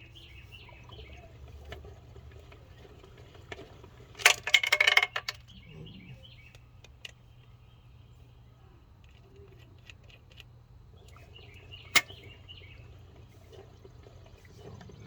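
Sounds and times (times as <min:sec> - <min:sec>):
birds chirping: 0:00.0 - 0:04.2, 0:04.8 - 0:15.0.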